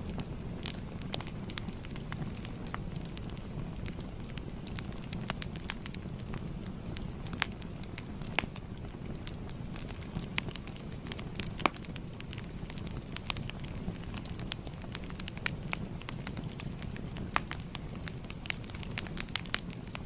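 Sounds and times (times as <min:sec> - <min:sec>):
fire crackles and pops: 0:00.0 - 0:20.0
wood fire flames rushing: 0:00.0 - 0:20.0.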